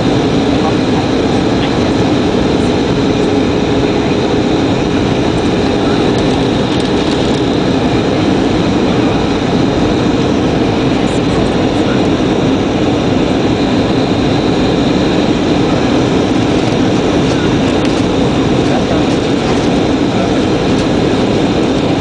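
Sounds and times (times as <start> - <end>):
jet airliner cabin noise: 0.0 - 22.0.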